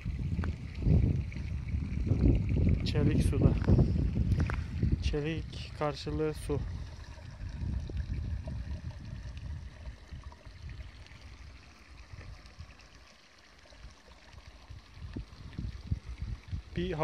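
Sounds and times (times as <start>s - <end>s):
wind rumble on microphone: 0.0s - 12.9s, 13.8s - 17.0s
water rushing: 0.0s - 17.0s.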